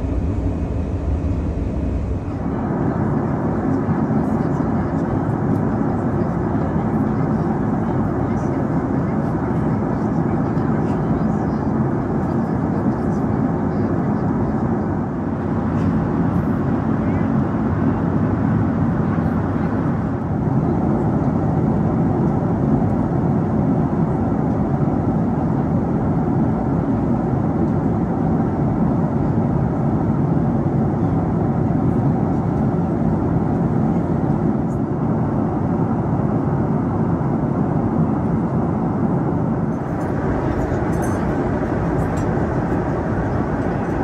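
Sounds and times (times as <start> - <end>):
airplane cabin roar: 0.0 - 44.0.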